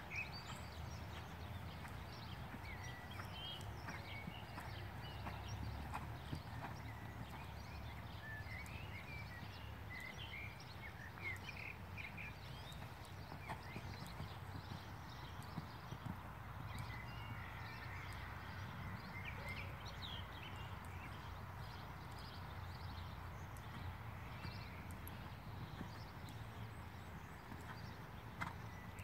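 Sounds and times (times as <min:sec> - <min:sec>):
horse trotting on sand: 0:00.0 - 0:29.0.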